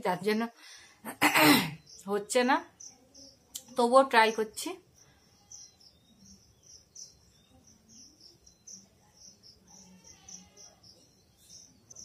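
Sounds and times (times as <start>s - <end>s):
cricket chirping: 0.6s - 12.0s.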